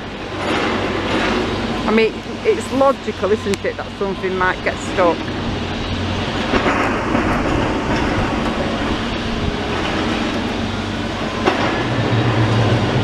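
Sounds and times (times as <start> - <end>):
excavator diesel engine and hydraulics: 0.0 - 13.0.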